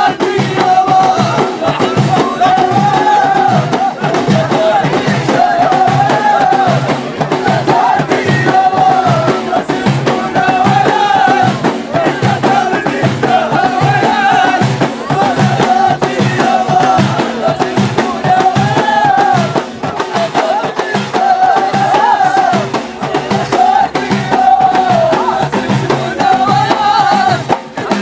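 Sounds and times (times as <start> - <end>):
frame drums beating: 0.0 - 28.0
men singing together: 0.0 - 28.0.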